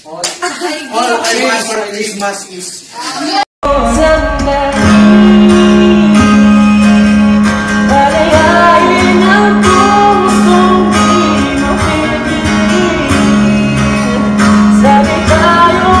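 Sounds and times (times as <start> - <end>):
guitar: 3.1 - 16.0
person singing: 3.2 - 16.0.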